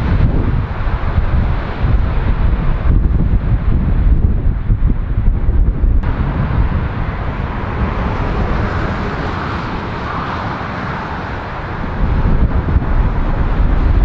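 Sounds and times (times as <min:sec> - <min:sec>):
jet airliner engine: 0:00.0 - 0:14.0
wind buffeting microphone: 0:00.0 - 0:14.0.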